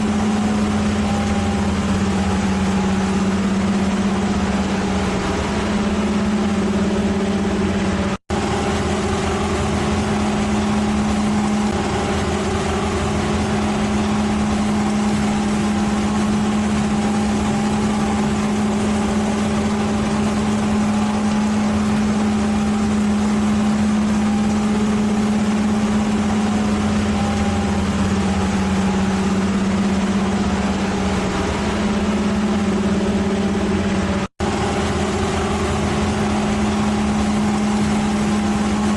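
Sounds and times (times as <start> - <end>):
heavy machine engine droning: 0.0 - 38.9.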